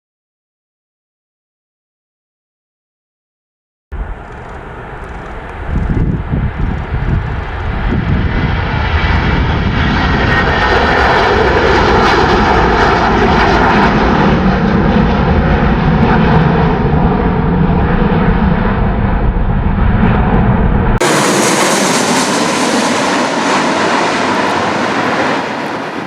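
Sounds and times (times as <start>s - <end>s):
jet engines at takeoff thrust: 4.0s - 26.0s.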